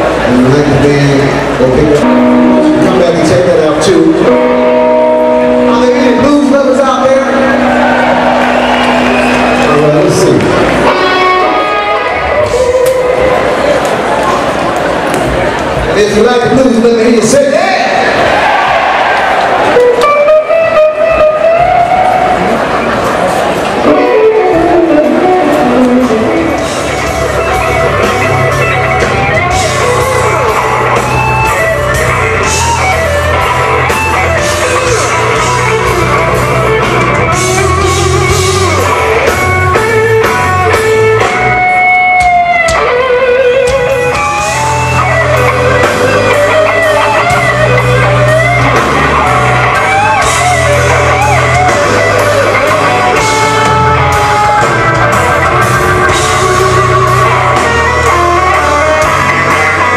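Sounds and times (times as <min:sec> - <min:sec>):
electric guitar lead: 0:00.0 - 0:18.2, 0:19.5 - 0:59.9
bass guitar: 0:00.0 - 0:18.6, 0:19.5 - 0:59.9
drums: 0:00.0 - 0:59.9.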